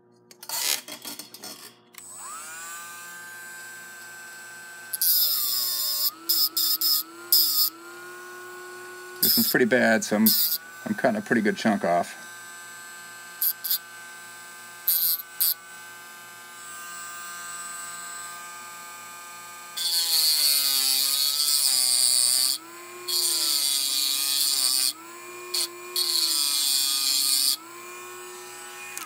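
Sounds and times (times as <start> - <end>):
harsh gritty cutting: 0.3 - 14.2, 14.8 - 15.9, 19.7 - 29.0
rotary tool motor whining: 0.4 - 29.0.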